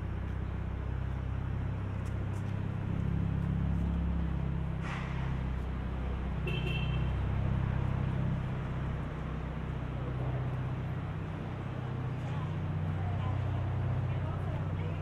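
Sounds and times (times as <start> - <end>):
city street hum: 0.0 - 15.0
traffic engine rumble: 0.0 - 15.0.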